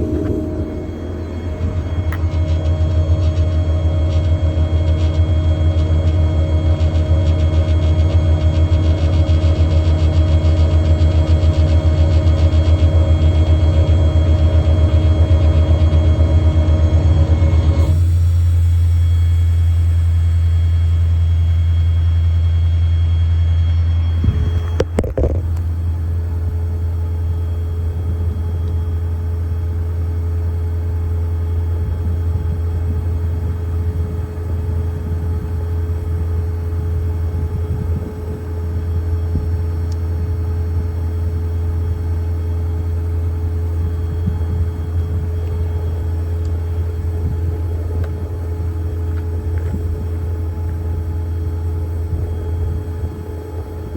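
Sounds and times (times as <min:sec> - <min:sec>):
diesel engine droning: 0:00.0 - 0:53.9
steady higher hum: 0:00.0 - 0:53.9.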